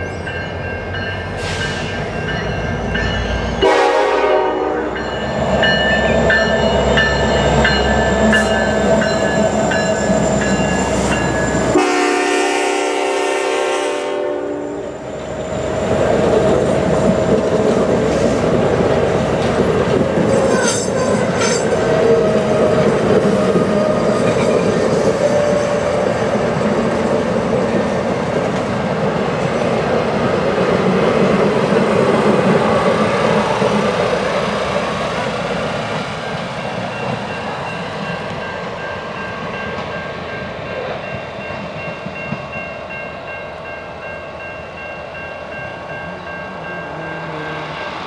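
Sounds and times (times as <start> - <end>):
railroad crossing bell ringing: 0.0 - 28.4, 36.1 - 48.0
train wheels rumbling on rails: 0.0 - 48.0.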